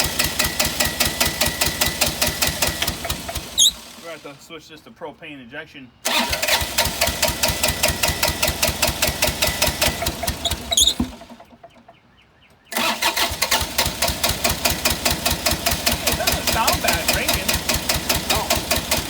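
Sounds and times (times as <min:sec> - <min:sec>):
diesel engine cranking on starter: 0:00.0 - 0:04.4, 0:06.0 - 0:11.8, 0:12.7 - 0:19.0.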